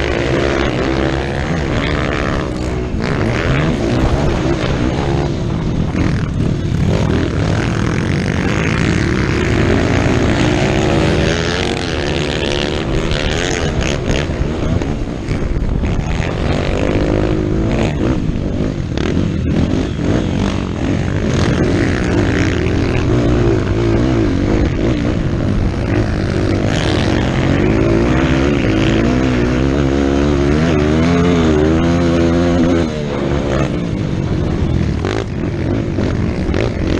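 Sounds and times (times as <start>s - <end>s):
motorcycle engine revving: 0.0s - 36.9s
steady rushing noise: 0.0s - 36.9s.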